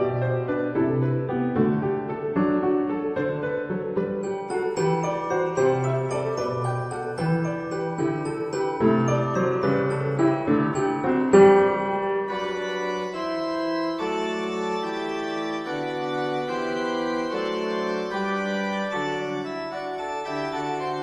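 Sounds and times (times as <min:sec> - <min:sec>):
organ-like keyboard chords: 0:04.2 - 0:21.0.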